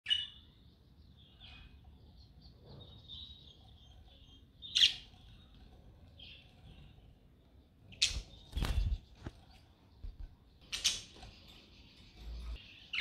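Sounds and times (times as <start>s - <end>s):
budgerigars chirping and warbling: 0.1s - 7.2s, 7.8s - 13.0s.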